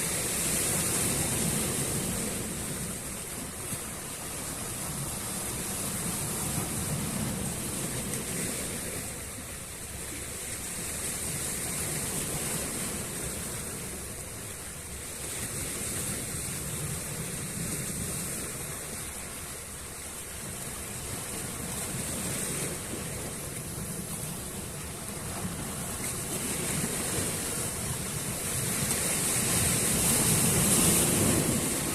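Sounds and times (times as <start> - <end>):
sea waves washing onto shore: 0.0 - 31.9.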